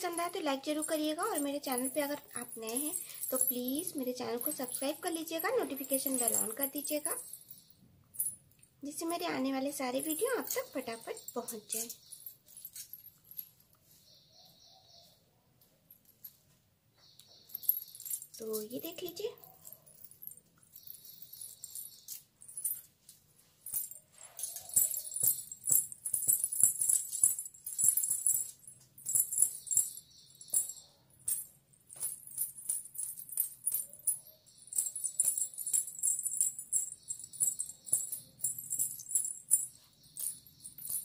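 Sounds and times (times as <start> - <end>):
ankle bells jingling: 0.0 - 15.1, 15.9 - 41.0.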